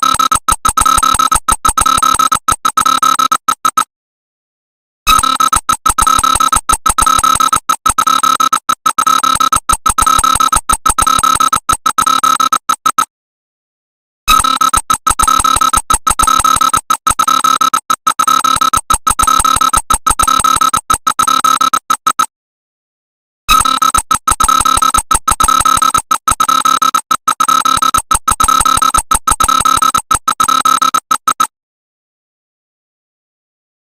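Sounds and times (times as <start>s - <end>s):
harsh buzzing alert alarm: 0.0s - 3.9s, 5.1s - 13.1s, 14.3s - 22.3s, 23.5s - 31.5s.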